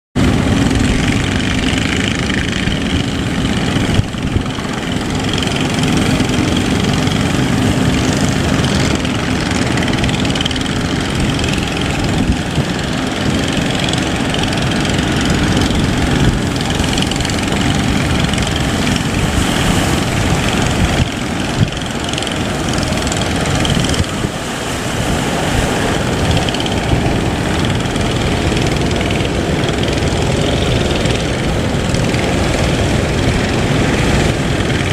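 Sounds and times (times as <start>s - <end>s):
boat engine running: 0.2s - 34.9s
dense rushing noise: 0.2s - 34.9s.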